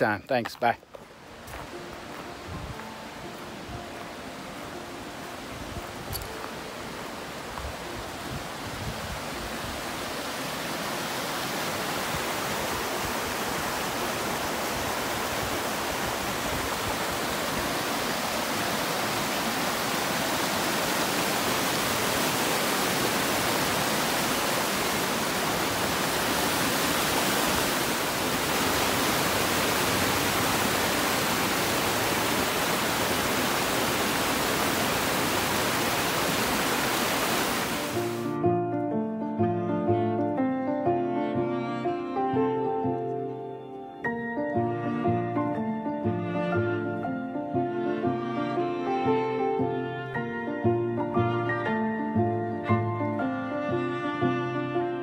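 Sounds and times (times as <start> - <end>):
flowing water rushing: 0.8 - 38.4, 44.8 - 55.0.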